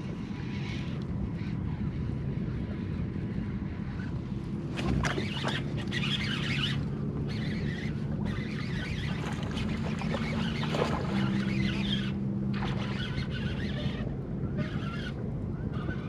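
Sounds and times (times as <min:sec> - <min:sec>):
water noise: 0:00.0 - 0:15.2
boat motor humming: 0:00.0 - 0:16.0
wind: 0:00.0 - 0:16.0.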